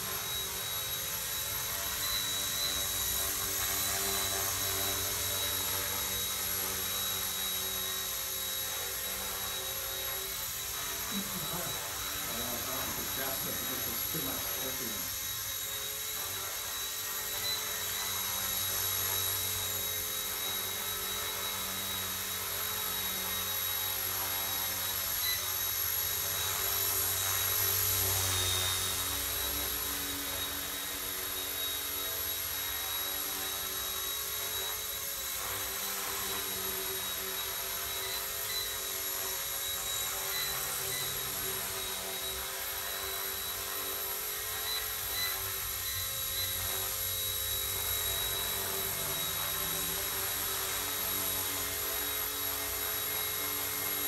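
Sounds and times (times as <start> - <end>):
electric motor whine: 0.0 - 54.0
spinning rotors hum: 0.0 - 54.0.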